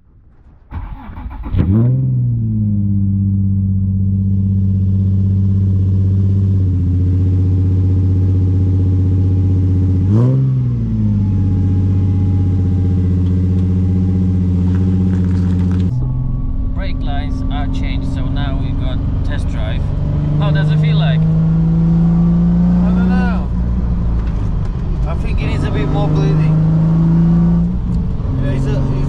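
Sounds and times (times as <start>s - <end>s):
car engine starting and idling: 0.0s - 29.0s.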